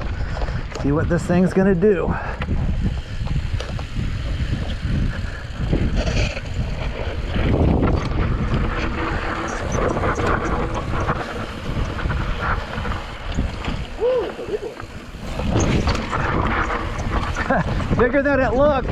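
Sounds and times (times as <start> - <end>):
bike tyres clicking over rock: 0.0 - 18.9
wind buffeting microphone: 0.0 - 18.9.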